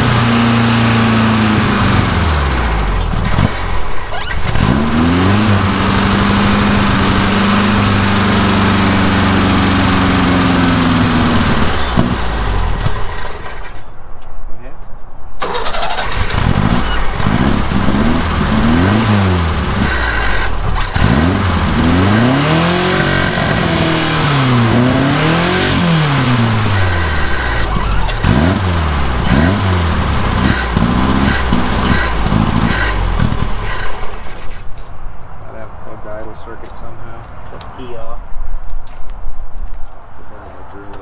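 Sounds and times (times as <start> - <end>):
engine revving up and down: 0.0 - 13.8, 15.4 - 34.7.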